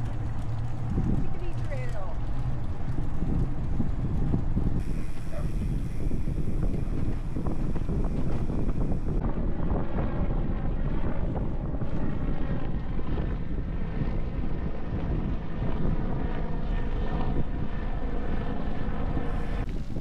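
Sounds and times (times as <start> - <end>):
steady droning hum: 0.0 - 20.0
wind rumbling on microphone: 0.0 - 20.0.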